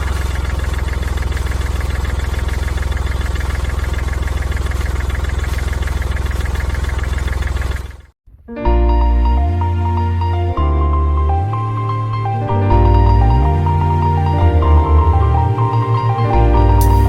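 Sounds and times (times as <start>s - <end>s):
vehicle engine idling: 0.0s - 8.2s, 9.3s - 17.0s.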